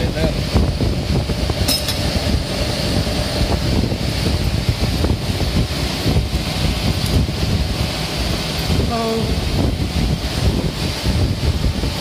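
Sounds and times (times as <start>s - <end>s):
low rumble of machinery: 0.0s - 12.0s.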